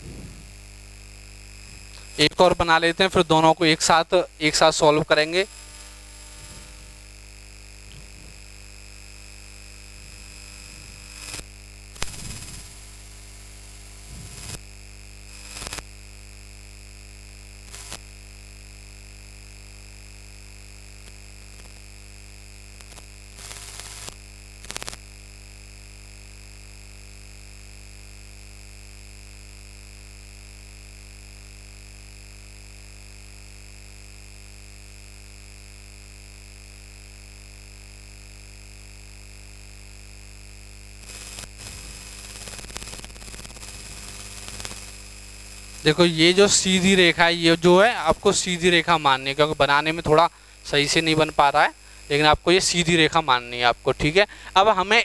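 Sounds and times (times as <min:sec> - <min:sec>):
electrical hum with high whine: 0:00.0 - 0:55.0.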